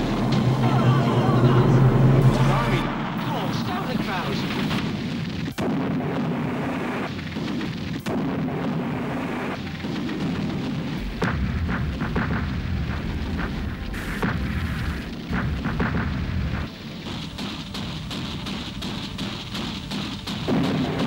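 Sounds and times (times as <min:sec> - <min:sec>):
gunfire and explosions: 0:00.0 - 0:21.0.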